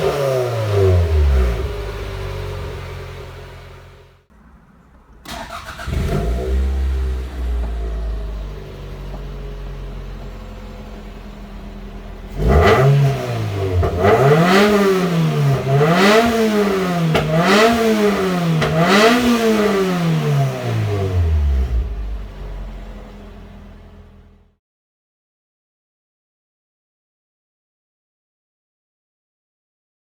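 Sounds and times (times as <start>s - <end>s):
car engine idling and revving: 0.0s - 24.6s.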